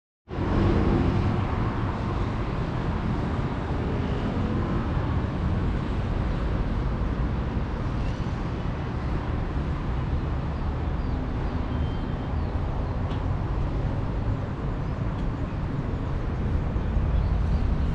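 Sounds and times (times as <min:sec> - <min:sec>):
city traffic hum: 0:00.3 - 0:17.9.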